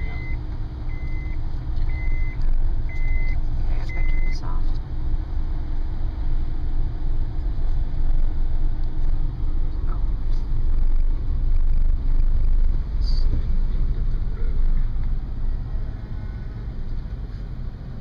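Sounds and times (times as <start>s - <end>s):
car rumble on sand: 0.0s - 18.0s.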